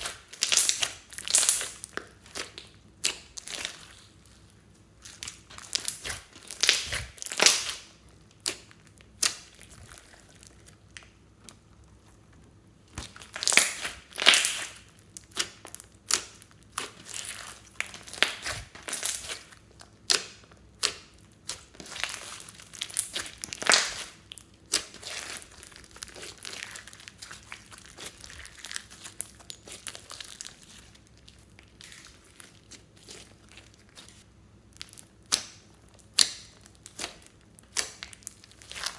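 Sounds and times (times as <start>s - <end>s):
hands squishing sticky slime: 0.0s - 38.9s.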